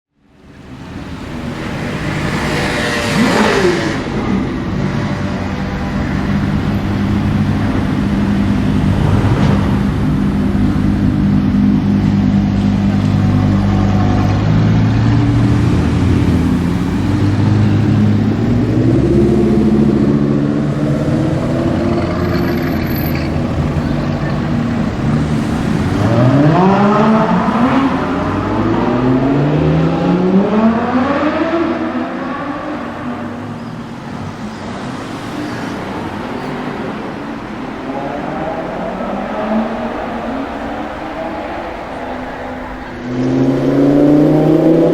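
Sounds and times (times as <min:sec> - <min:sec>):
car engine revving and accelerating: 0:00.5 - 0:44.9.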